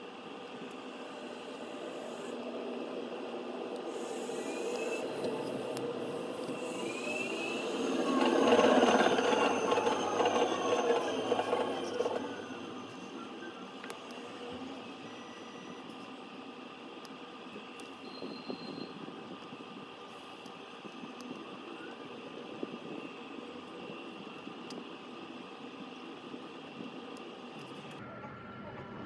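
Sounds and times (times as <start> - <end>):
mechanical whirring hum: 0.0 - 29.0.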